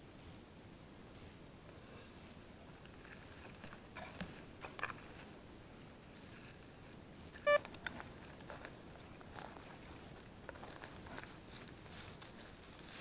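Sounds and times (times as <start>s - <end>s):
digging in soil: 1.1s - 13.0s.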